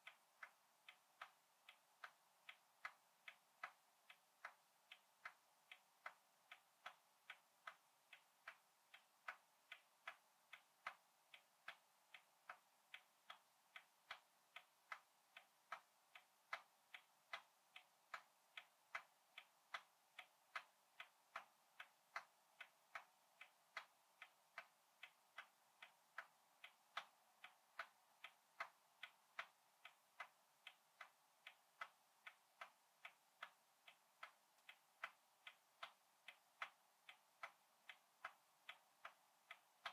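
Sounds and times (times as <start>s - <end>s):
old clock ticking: 0.0s - 39.9s.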